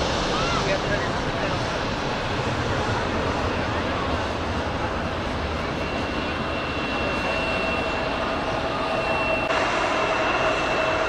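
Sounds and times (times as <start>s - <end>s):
high engine whine: 0.0s - 11.0s
jet engine roar: 0.0s - 11.0s.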